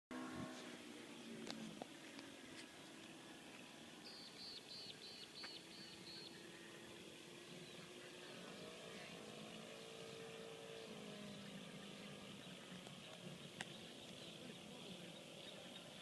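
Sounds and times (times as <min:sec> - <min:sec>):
distant model aeroplane engine humming: 0:00.1 - 0:16.0
bird chirping: 0:02.7 - 0:16.0.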